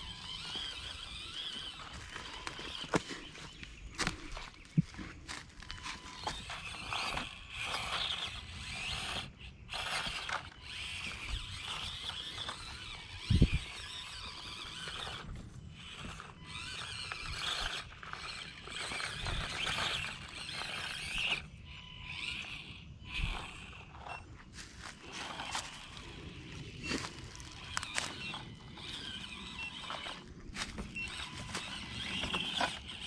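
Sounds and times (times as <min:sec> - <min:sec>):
small electric motor whining: 0:00.0 - 0:33.0.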